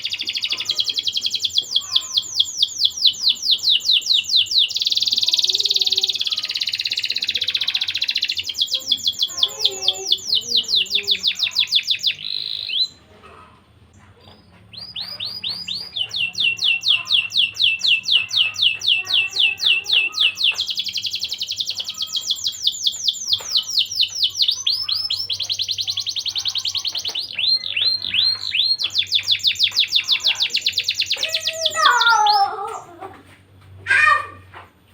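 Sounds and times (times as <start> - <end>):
canary singing trills: 0.0 - 13.1, 14.0 - 32.9.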